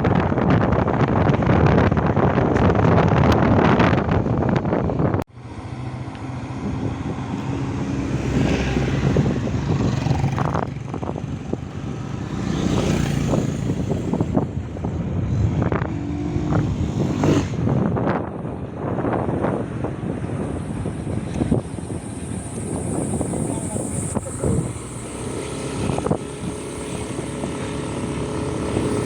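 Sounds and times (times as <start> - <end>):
road noise: 0.0 - 29.0
vehicle engine hum: 0.0 - 29.0
wind buffeting microphone: 0.0 - 29.0.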